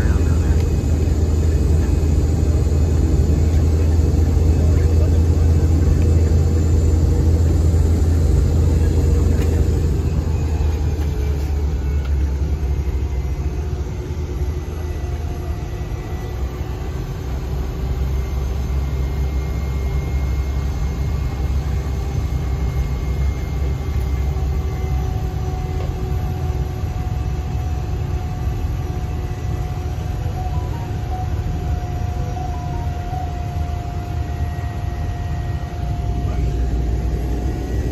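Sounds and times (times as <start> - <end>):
faint whining tones: 0.0 - 37.9
turboprop engine rumble: 0.0 - 37.9.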